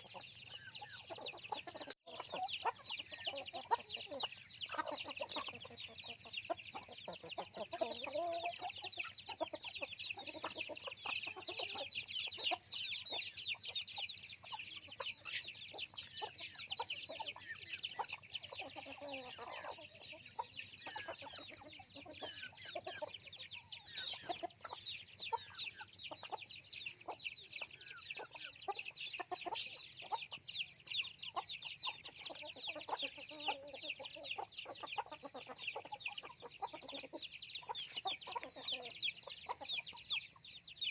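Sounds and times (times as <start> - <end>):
chicks peeping: 0.0 - 40.9
hens clucking: 0.0 - 40.9.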